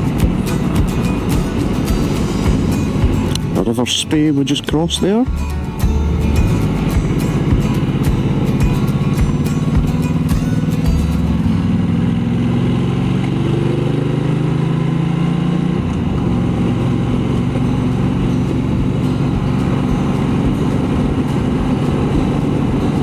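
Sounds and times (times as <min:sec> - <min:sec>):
motorcycle engine and exhaust: 0:00.0 - 0:23.0.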